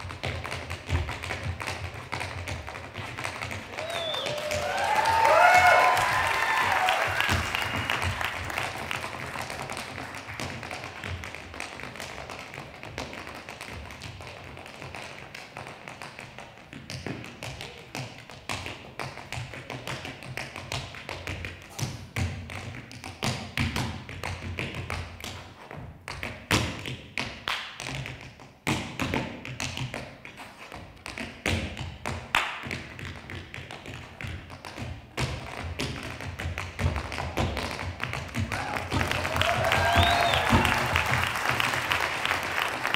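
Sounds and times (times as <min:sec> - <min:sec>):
tap shoes on stage floor: 0:00.0 - 0:42.9.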